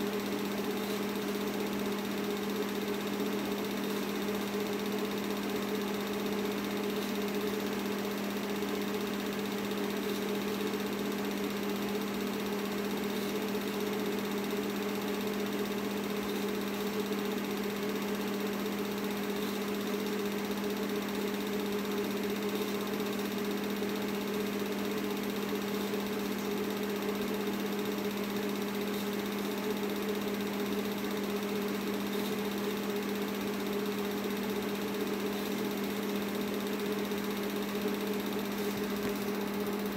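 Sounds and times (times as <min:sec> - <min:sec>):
film projector motor hum: 0:00.0 - 0:39.9.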